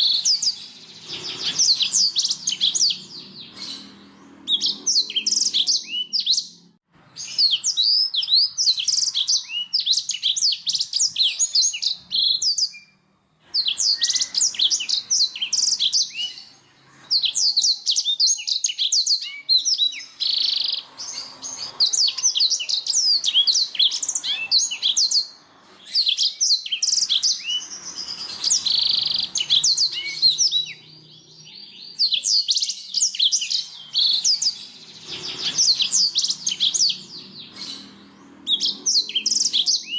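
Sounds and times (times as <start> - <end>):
canary singing trills and chirps: 0.0 - 39.9.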